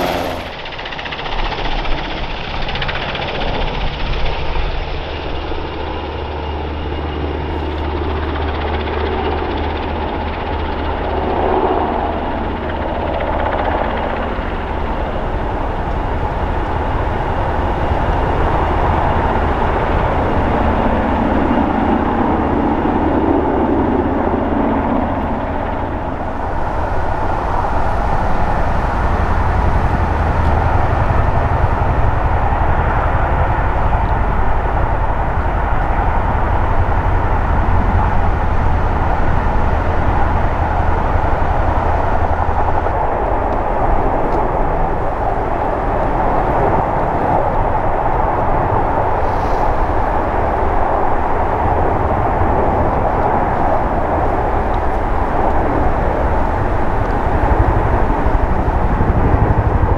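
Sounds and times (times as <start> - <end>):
helicopter engines running on ground: 0.0 - 59.9
helicopter rotors and turbines: 0.0 - 59.9.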